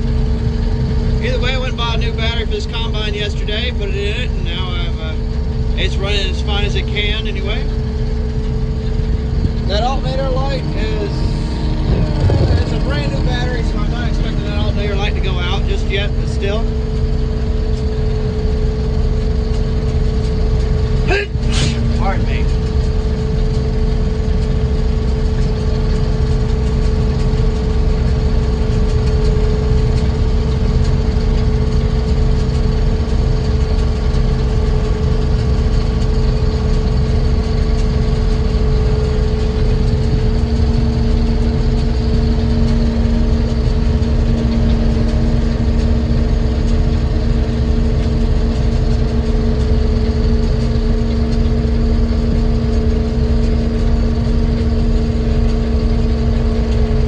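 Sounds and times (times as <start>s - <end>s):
combine harvester running: 0.0s - 57.0s
lower hum: 0.0s - 57.0s.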